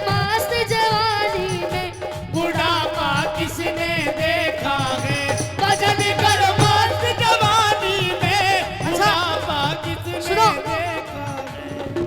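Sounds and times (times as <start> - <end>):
devotional singing melody: 0.0 - 12.0
hand drums: 0.0 - 12.0.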